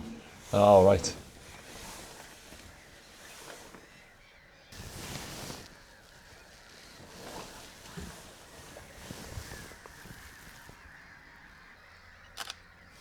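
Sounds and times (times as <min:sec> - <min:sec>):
geese honking: 0:00.0 - 0:04.0, 0:04.8 - 0:13.0.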